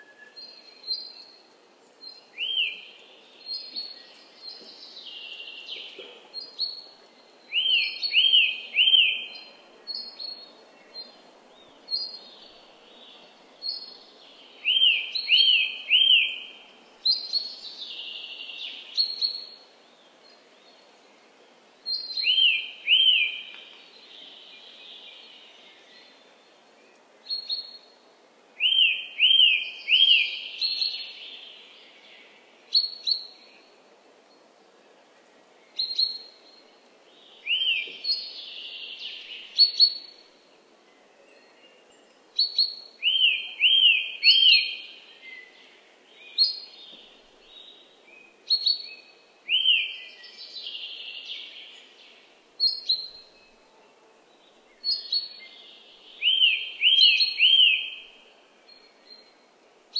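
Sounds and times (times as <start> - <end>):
songbirds singing with trill: 0.0 - 59.9.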